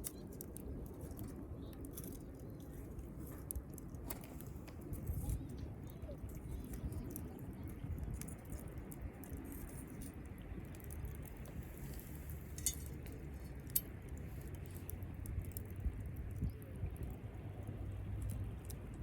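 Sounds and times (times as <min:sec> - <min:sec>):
campfire crackling and popping: 0:00.0 - 0:19.0
low steady rumble: 0:00.6 - 0:19.0.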